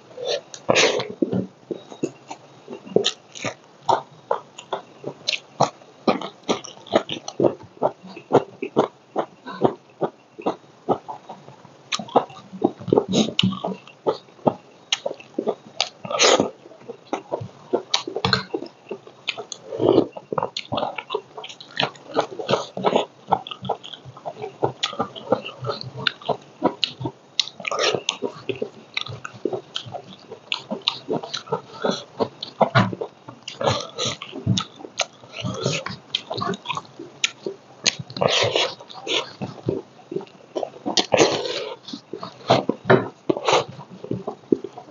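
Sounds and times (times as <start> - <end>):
wet chewing and lip-smacking: 0.4 - 44.9.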